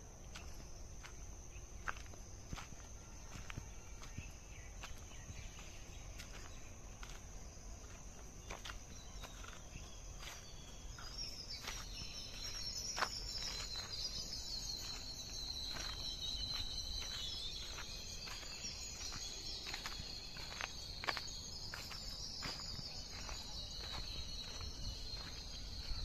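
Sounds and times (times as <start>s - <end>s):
high-pitched insect chorus: 0.0s - 26.0s
footsteps crunching on ground: 0.1s - 26.0s.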